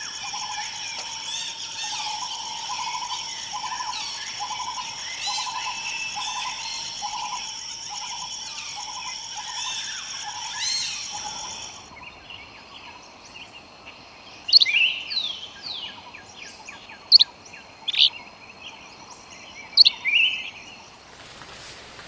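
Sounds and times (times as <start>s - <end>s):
background hiss: 0.0s - 22.0s
forest birds calling: 0.0s - 22.0s.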